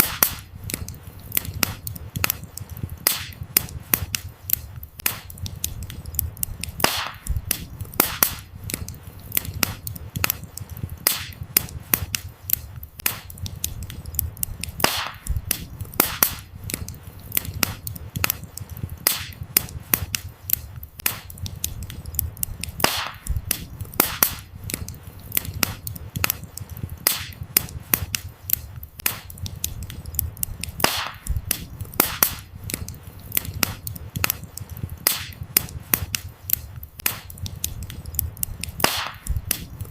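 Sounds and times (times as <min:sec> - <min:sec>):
low flame rumble: 0:00.0 - 0:39.9
wood fire crackling and popping: 0:00.0 - 0:39.9.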